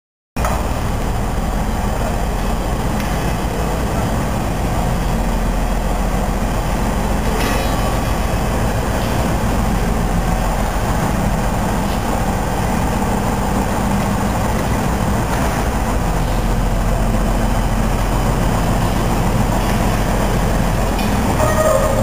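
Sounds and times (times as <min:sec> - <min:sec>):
diesel locomotive engine humming: 0:00.4 - 0:22.0.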